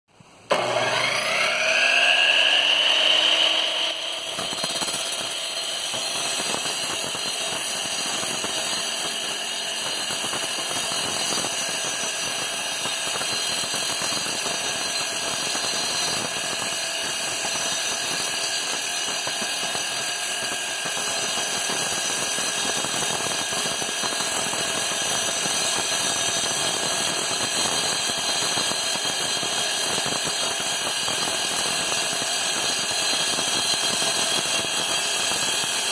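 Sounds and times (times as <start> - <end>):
blade grinding stone: 0.5 - 35.9
saw motor tone: 0.5 - 35.9.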